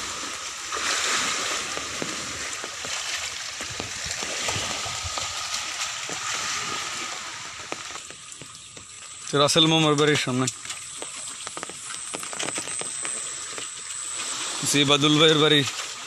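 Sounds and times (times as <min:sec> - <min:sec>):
floodwater rushing: 0:00.0 - 0:16.0
small water splashes: 0:00.0 - 0:16.0.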